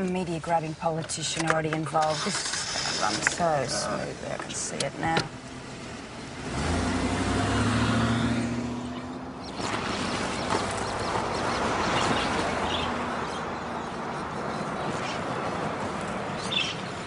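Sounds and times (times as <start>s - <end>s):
outdoor noise haze: 0.0s - 17.0s.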